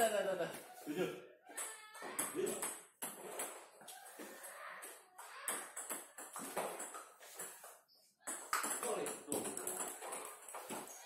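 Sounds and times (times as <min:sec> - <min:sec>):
table tennis ball bouncing: 0:01.5 - 0:11.0.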